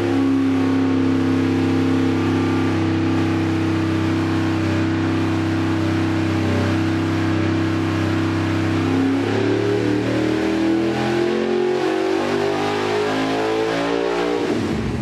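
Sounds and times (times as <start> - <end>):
engine revving on a dyno: 0.0 - 15.0.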